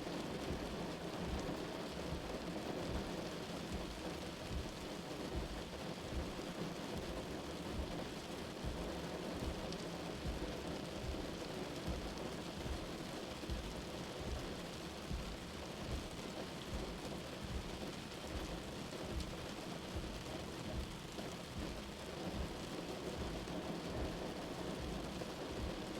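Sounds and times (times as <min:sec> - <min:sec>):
heavy rain drumming on a car: 0:00.0 - 0:25.9.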